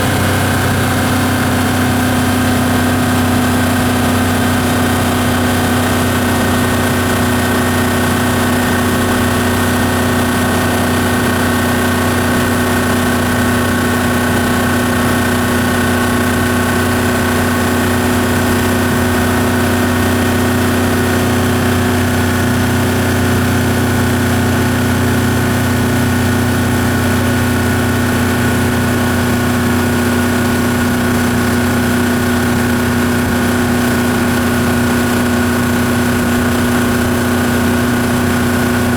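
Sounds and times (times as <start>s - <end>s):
outboard motor humming: 0.0s - 38.9s.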